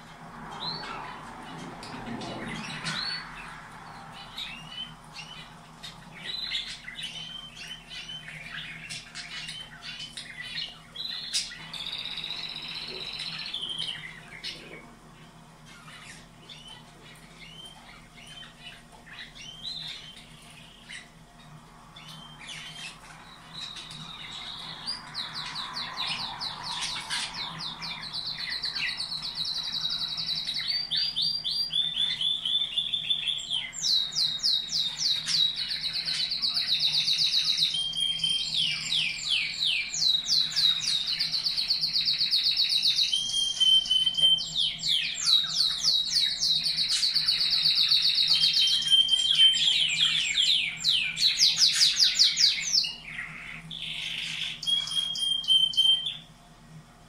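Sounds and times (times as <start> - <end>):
canary singing trills: 0.0 - 56.4.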